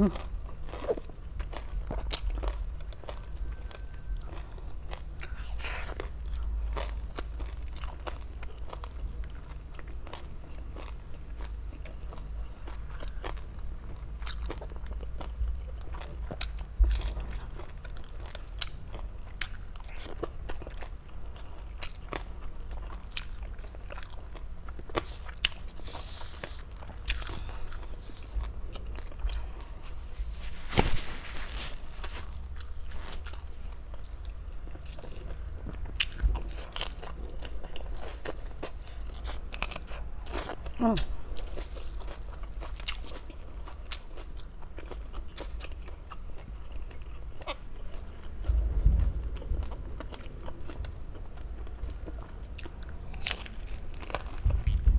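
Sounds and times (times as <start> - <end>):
crunchy food being chewed: 0.0 - 54.9
steady low hum: 0.0 - 54.9.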